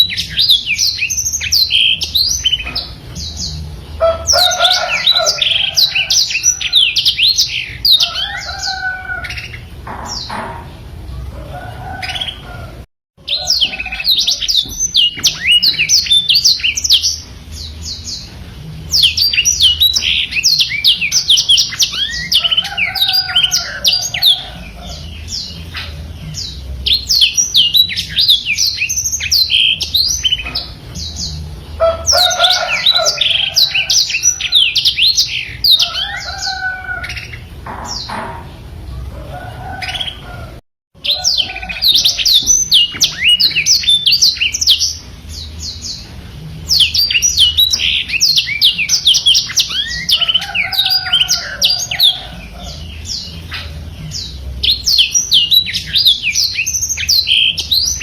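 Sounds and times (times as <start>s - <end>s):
canary singing twittering song: 0.0s - 58.0s.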